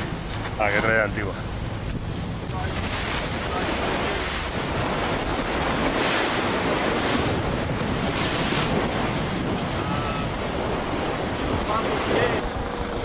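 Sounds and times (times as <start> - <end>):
water rushing past hull: 0.0 - 12.4
wind buffeting microphone: 0.0 - 13.0.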